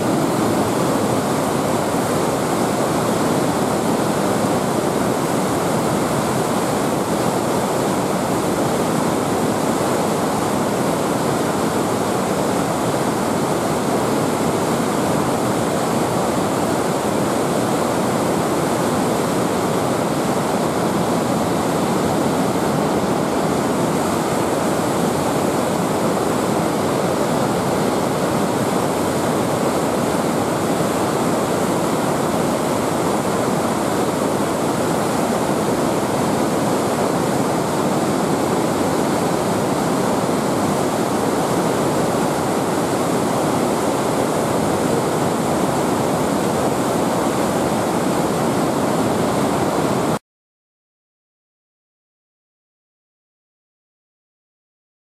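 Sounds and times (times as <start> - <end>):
whitewater rushing through gorge: 0.0 - 50.2.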